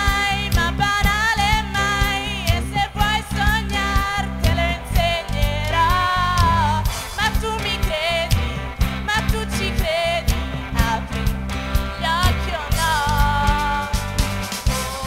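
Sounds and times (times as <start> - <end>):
band with bass and drums: 0.0 - 15.0
person singing with vibrato: 0.0 - 15.0.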